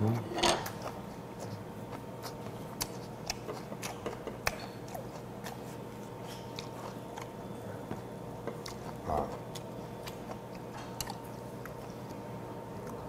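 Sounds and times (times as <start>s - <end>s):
faint steady hum: 0.0s - 13.0s
chewing with wet mouth clicks: 0.6s - 13.0s.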